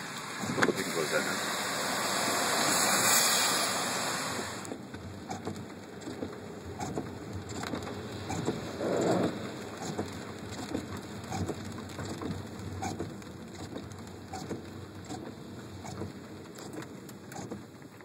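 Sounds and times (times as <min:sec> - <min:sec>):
raindrops tapping on car roof: 0:00.0 - 0:02.8, 0:04.5 - 0:18.0
tyres hissing on wet road: 0:00.0 - 0:17.6.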